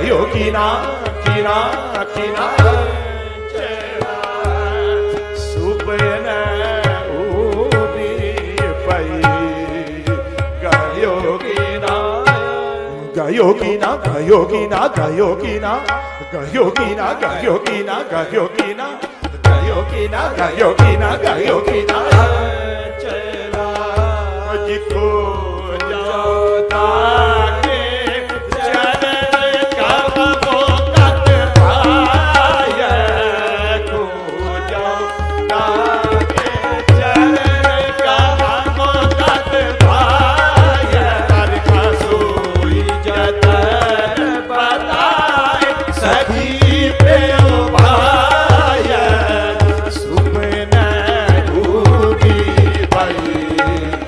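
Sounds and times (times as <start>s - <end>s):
man singing devotional melody: 0.0s - 54.0s
tabla beat: 0.0s - 54.0s.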